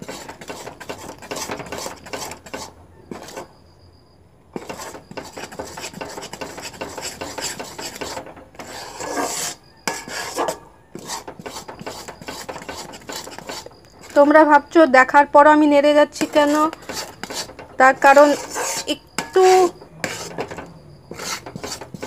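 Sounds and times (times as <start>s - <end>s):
spoon scraping a metal pan: 0.0s - 3.6s, 4.6s - 14.8s, 15.9s - 22.0s.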